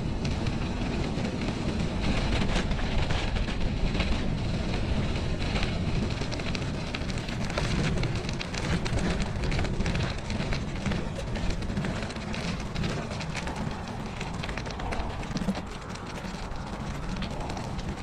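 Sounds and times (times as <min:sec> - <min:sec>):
tyres crackling over snow: 0:00.0 - 0:18.0
wind buffeting microphone: 0:00.0 - 0:18.0.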